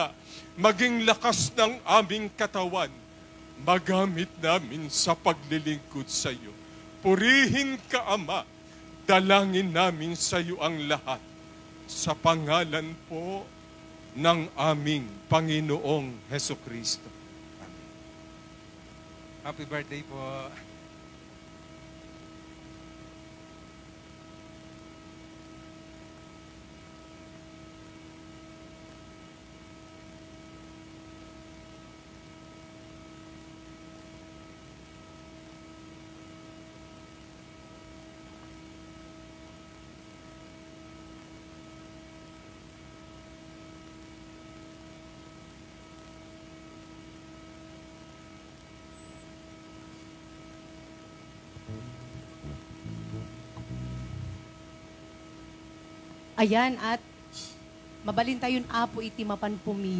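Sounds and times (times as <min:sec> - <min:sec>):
electrical hum and hiss: 0:00.0 - 0:59.9.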